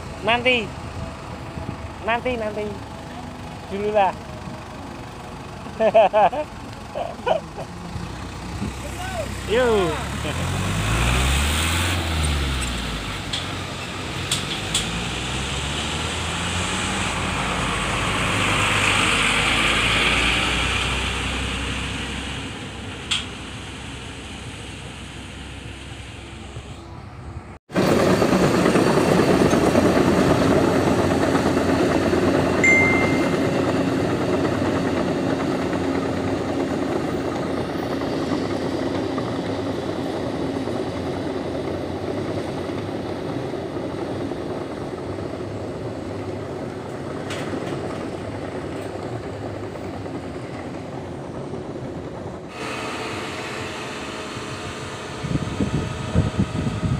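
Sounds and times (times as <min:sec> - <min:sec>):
heavy vehicle engine running: 0:00.0 - 0:56.9
steady engine drone: 0:00.0 - 0:56.9.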